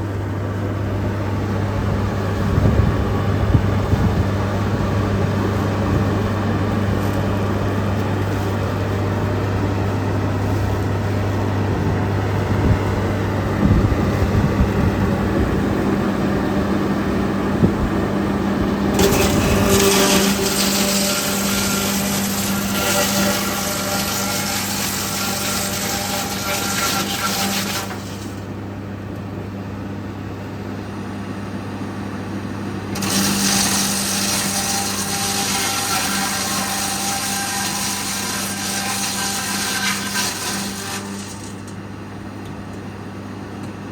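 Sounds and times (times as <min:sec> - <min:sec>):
woodworking machinery humming: 0:00.0 - 0:43.9.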